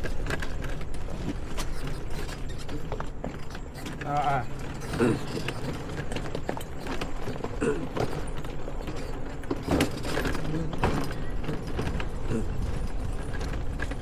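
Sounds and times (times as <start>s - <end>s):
engine and road rumble: 0.0s - 14.0s
knocks and rattles: 0.0s - 14.0s.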